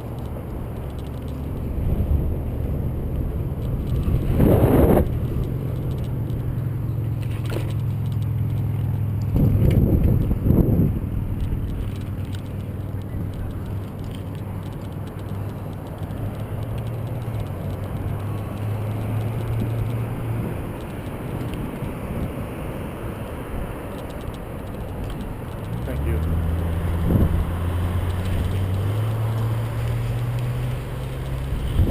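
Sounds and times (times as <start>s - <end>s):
wind rushing over microphone: 0.0s - 6.8s, 9.2s - 31.9s
bicycle tyre noise: 0.0s - 31.9s.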